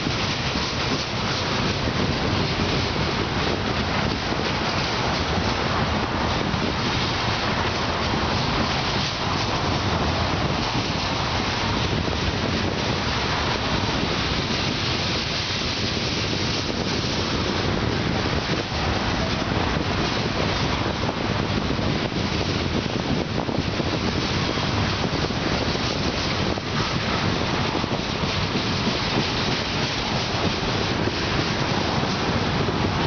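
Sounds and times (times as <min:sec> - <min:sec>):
train wheels on rails: 0:00.0 - 0:33.0
wind on microphone: 0:00.0 - 0:33.0.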